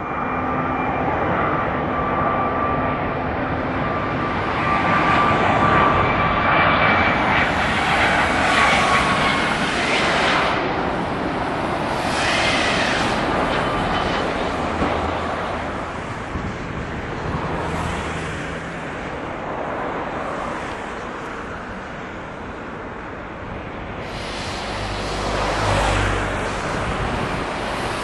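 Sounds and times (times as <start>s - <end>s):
jet engine roar: 0.0s - 28.0s
jet engine whine: 0.0s - 28.0s.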